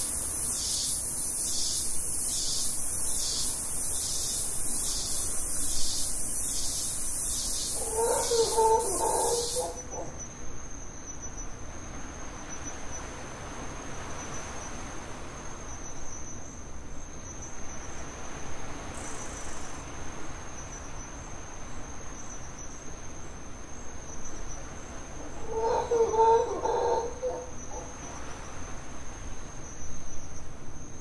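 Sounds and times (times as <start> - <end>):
insects trilling: 0.0 - 13.1, 15.6 - 31.0
low even hiss: 0.0 - 31.0.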